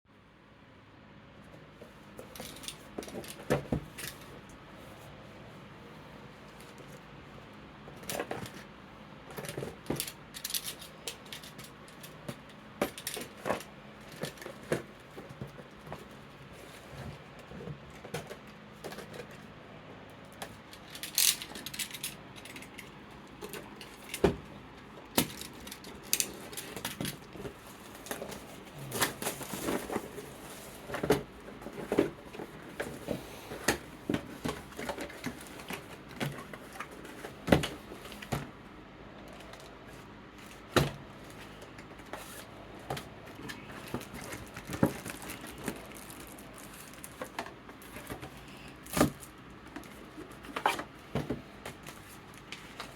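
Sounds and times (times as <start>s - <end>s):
electric fan whirring: 1.1s - 52.9s
cards and packaging rustling: 8.0s - 38.6s, 39.2s - 52.9s.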